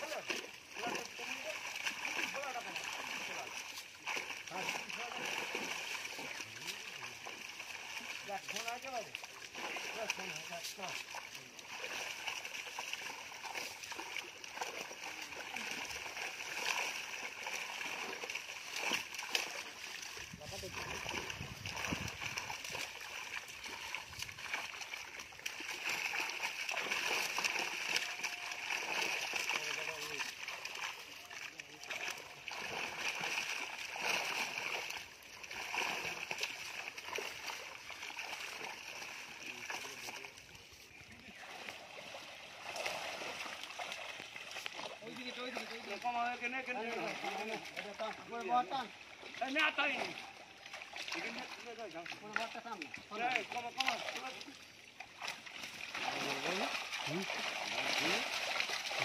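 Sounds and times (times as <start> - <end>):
water splashing and trickling: 0.0 - 59.0.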